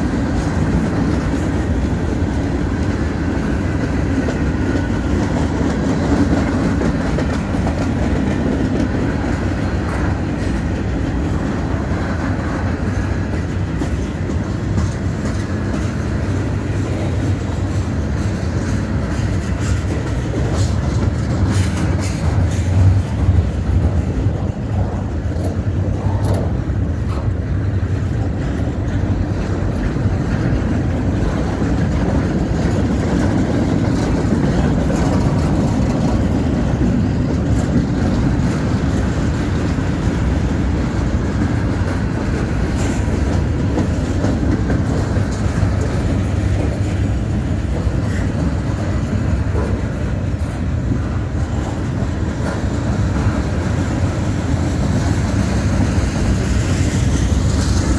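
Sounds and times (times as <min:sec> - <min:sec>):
train wheels rumbling on rail: 0:00.0 - 0:57.9
wheels clanking over rail joints: 0:00.0 - 0:57.9.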